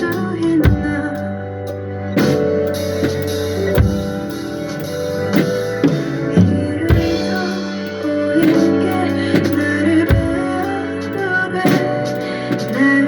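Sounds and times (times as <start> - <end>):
drum kit: 0.0 - 13.0
sustained melodic line: 0.0 - 13.0.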